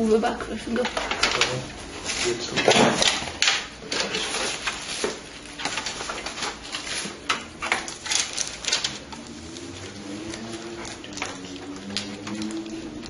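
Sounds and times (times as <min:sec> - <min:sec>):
rustling of cables: 0:00.7 - 0:13.0.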